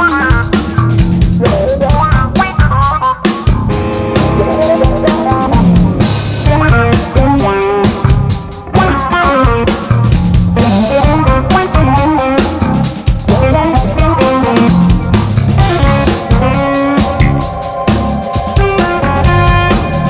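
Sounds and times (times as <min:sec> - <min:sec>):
jazz band playing: 0:00.0 - 0:20.0.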